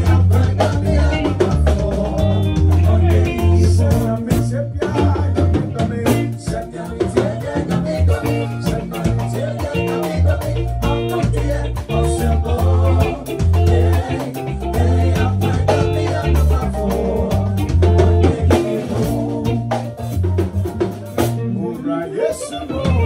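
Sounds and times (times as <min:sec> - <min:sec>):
band music with heavy bass: 0:00.0 - 0:23.0.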